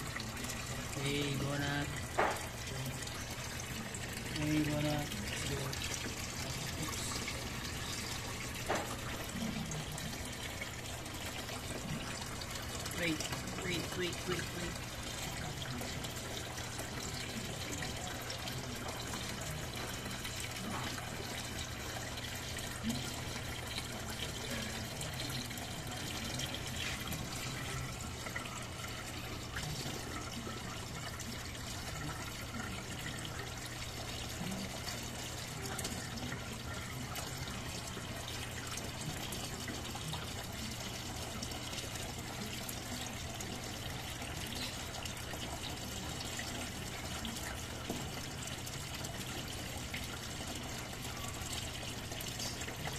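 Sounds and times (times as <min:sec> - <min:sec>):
water trickling: 0:00.0 - 0:52.9.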